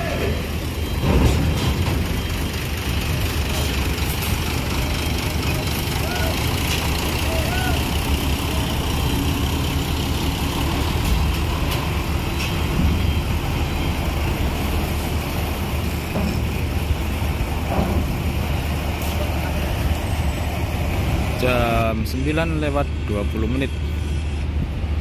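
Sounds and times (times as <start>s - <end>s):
bus engine running: 0.0s - 25.0s.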